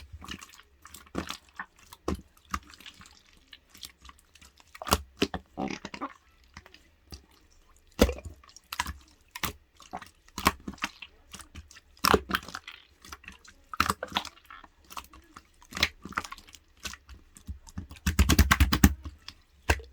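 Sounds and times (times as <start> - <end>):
slime squished by hand: 0.0 - 19.9.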